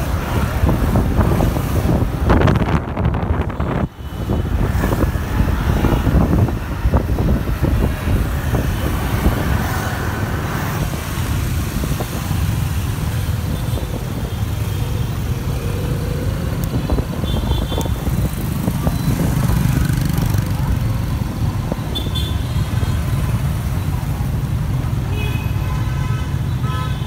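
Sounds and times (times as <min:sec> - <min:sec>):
passing motorbikes and cars: 0:00.0 - 0:27.0
wind: 0:00.0 - 0:27.0.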